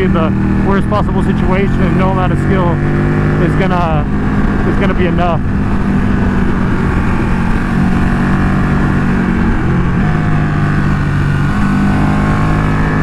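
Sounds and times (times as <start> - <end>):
motorcycle engine under way: 0.0 - 13.0
wind rushing over microphone: 0.0 - 13.0.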